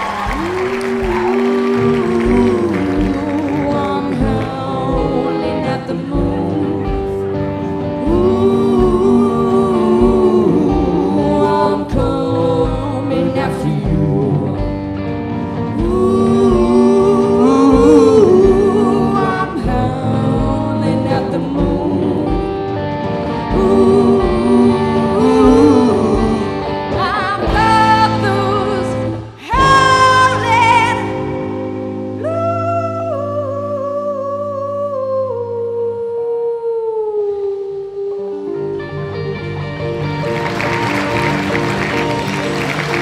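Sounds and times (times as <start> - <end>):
blues-rock band playing: 0.0 - 32.2, 38.9 - 43.0
electric guitar lead melody: 0.0 - 34.9, 38.1 - 43.0.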